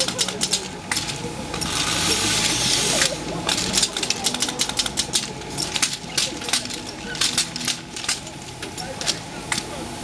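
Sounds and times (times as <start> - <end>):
air valves and metal joints clacking: 0.0 - 9.8.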